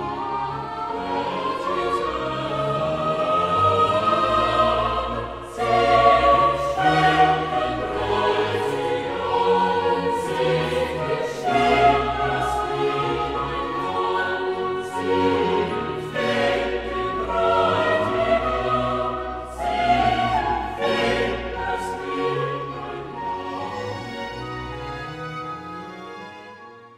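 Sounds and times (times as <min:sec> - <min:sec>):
choir singing held chords: 0:00.0 - 0:26.6
orchestral accompaniment: 0:00.0 - 0:26.9.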